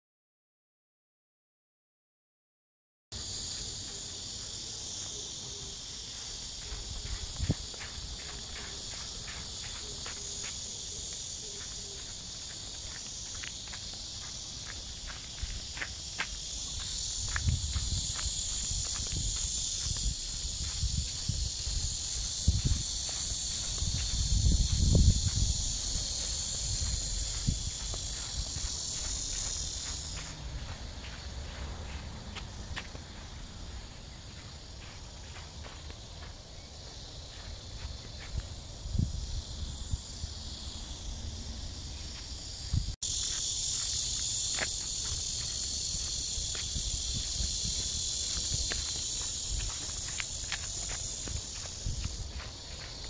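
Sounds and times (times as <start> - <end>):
insects singing: 3.2 - 53.0
soft footsteps: 3.6 - 38.6, 42.1 - 53.0.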